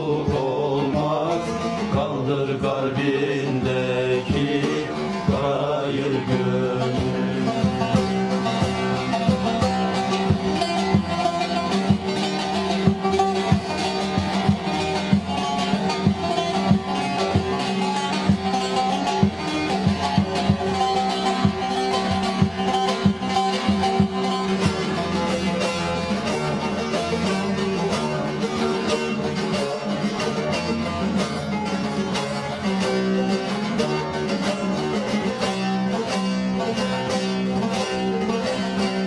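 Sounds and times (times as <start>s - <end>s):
plucked long-necked lutes: 0.0s - 39.0s.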